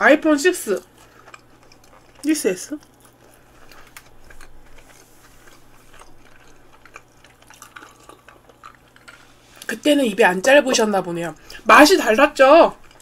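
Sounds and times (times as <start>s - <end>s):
close chewing: 0.2s - 13.0s.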